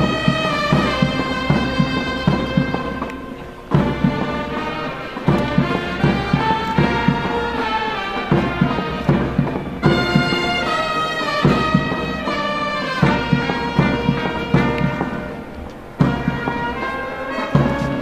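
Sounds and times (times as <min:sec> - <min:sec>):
military brass band playing: 0:00.0 - 0:18.0
steady drum beats: 0:00.0 - 0:18.0.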